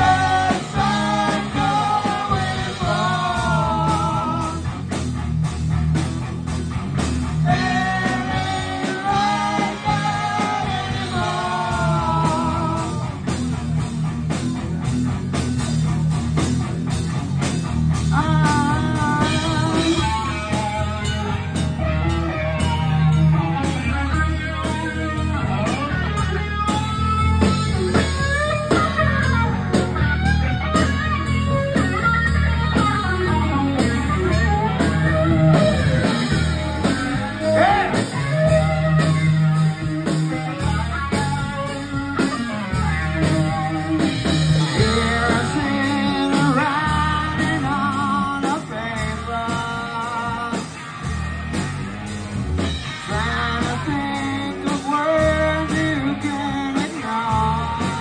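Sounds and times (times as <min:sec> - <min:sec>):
bass guitar: 0:00.0 - 0:58.0
drums: 0:00.0 - 0:58.0
electric guitar: 0:00.0 - 0:58.0.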